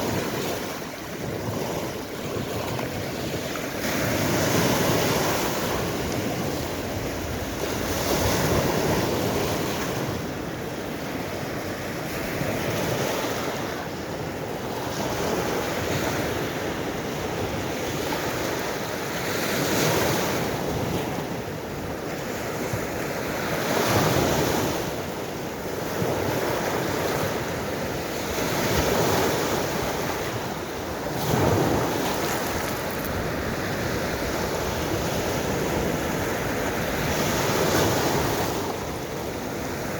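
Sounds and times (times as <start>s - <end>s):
wind rumbling on microphone: 0.0s - 18.8s, 19.5s - 39.9s
sea waves surging: 0.0s - 39.9s.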